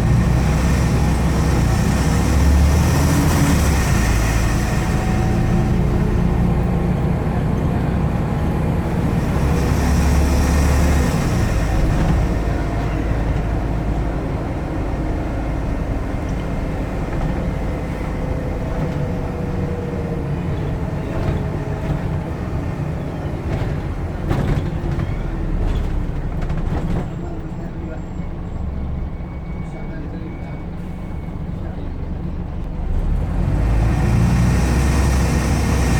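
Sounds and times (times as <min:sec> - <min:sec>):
bus engine droning: 0:00.0 - 0:35.9.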